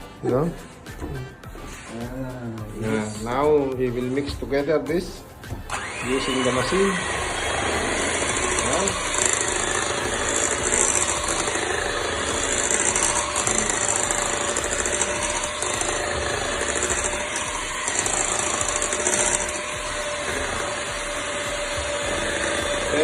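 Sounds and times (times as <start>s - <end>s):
electric mixer beating batter: 4.2s - 23.0s.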